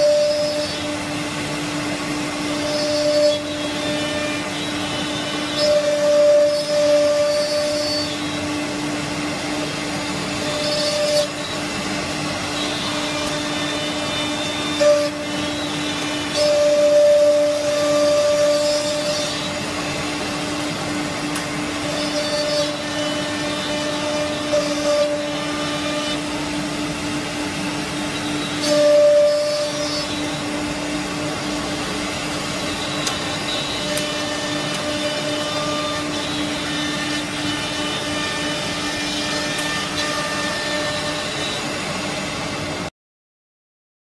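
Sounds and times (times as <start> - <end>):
router motor hum and spindle whine: 0.0 - 42.9.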